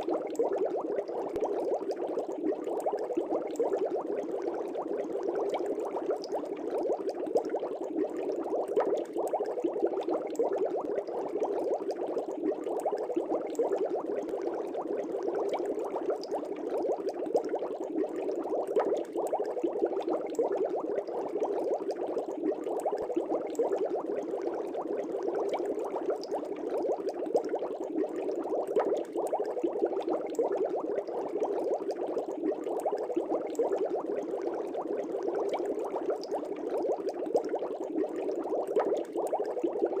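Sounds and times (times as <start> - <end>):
aquarium air bubbling: 0.0 - 40.0.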